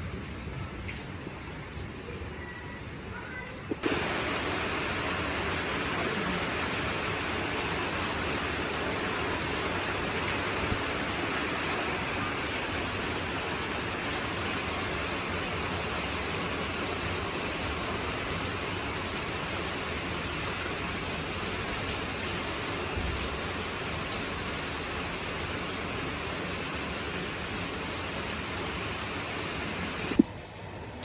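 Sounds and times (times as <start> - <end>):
heavy rain hissing: 0.0 - 31.0.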